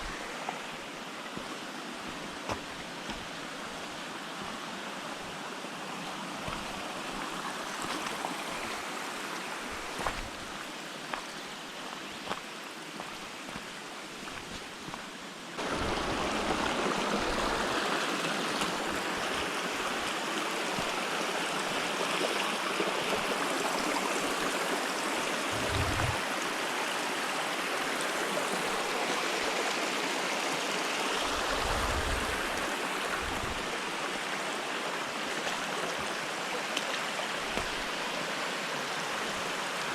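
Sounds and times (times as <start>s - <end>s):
waterfall rushing and splashing: 0.0s - 13.8s, 14.4s - 39.9s.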